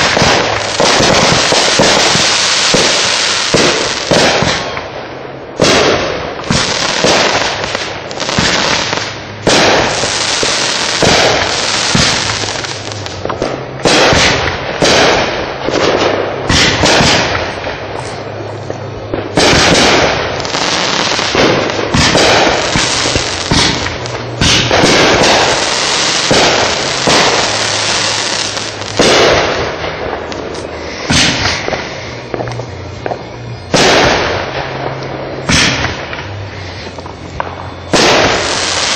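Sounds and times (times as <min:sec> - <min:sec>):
fireworks banging and crackling: 0:00.0 - 0:38.9.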